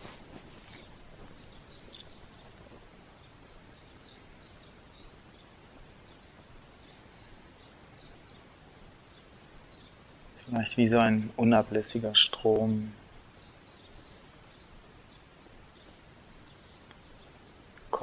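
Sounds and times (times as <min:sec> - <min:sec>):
small birds chirping: 0:00.0 - 0:18.0
soft background hiss: 0:00.0 - 0:18.0.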